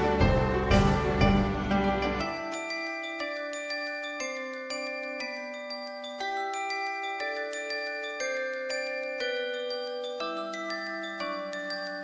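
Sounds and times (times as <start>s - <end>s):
bell-like mallet music: 0.0s - 12.0s.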